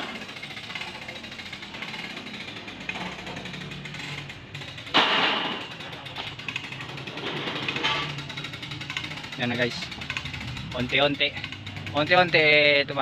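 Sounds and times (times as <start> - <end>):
chain hoist ratcheting: 0.0 - 13.0.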